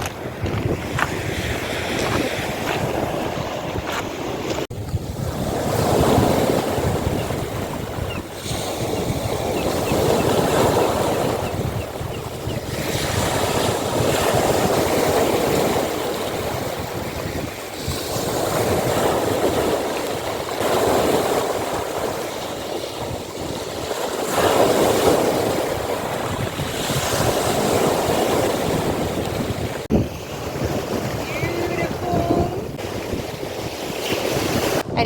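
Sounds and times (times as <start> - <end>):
sea waves breaking on shore: 0.0 - 35.0
wind rumbling on microphone: 0.0 - 35.0.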